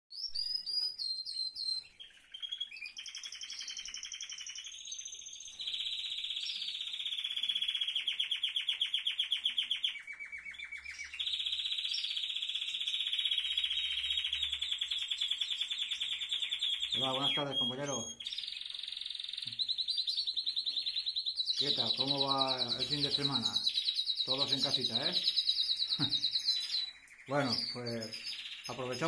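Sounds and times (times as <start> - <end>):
finches chirping and trilling: 0.2 - 29.0.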